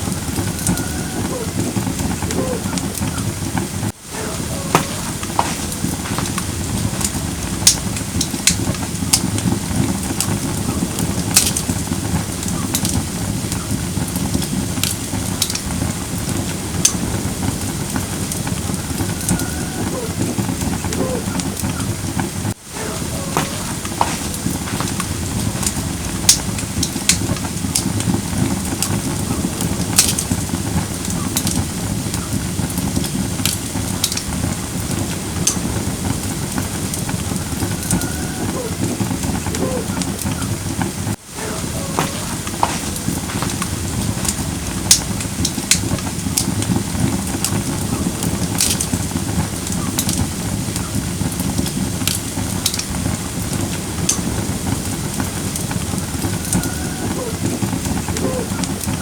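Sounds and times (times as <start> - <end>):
fire rushing: 0.0 - 59.0
firewood popping and crackling: 0.0 - 59.0.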